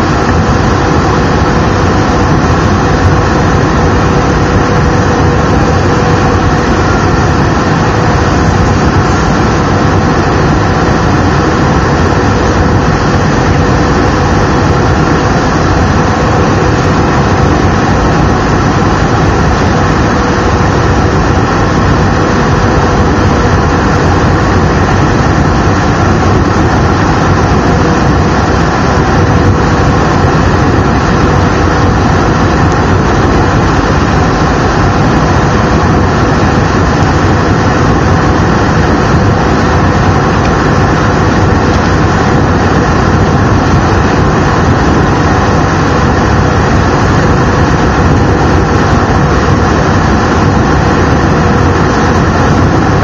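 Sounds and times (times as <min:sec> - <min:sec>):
faint steady hum: 0:00.0 - 0:53.0
jet cabin roar: 0:00.0 - 0:53.0.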